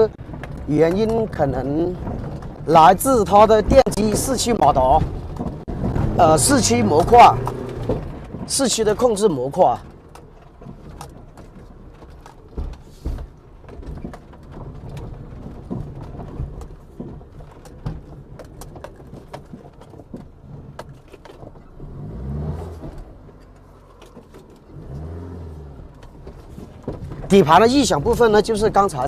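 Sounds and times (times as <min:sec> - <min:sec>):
chassis knocks and rattles: 0:00.0 - 0:29.0
vehicle engine running low: 0:00.0 - 0:29.0.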